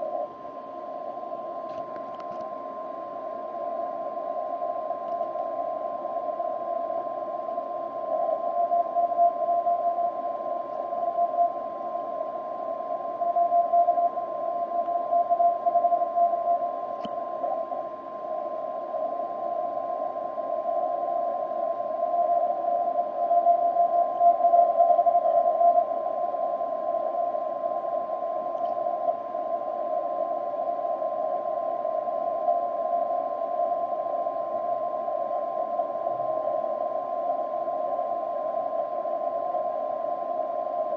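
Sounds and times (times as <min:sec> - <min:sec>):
steady whistle: 0:00.0 - 0:40.9.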